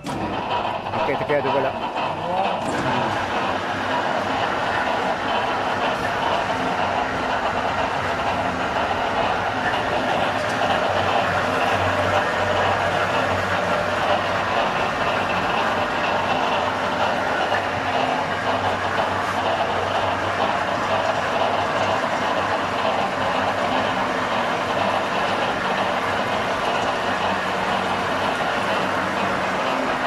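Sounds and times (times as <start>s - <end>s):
concrete mixer churning: 0.0s - 30.0s
low motor hum: 0.0s - 30.0s.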